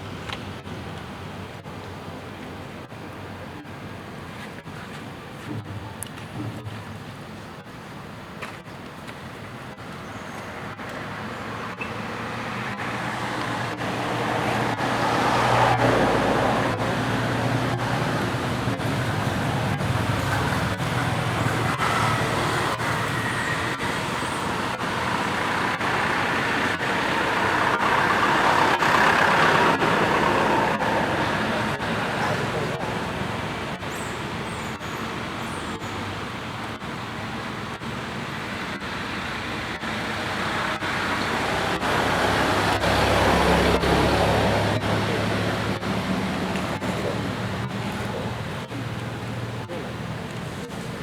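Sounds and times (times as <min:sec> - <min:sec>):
motor vehicles passing: 0:09.6 - 0:51.0.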